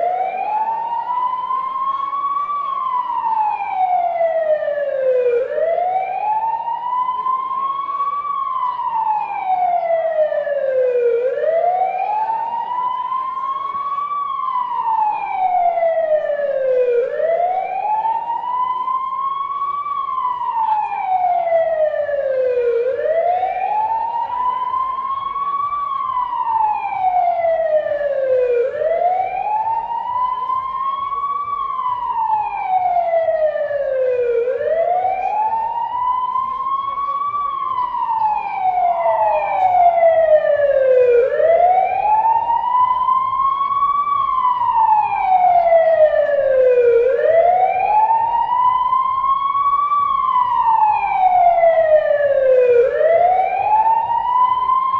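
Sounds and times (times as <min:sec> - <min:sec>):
wailing siren: 0:00.0 - 0:54.9.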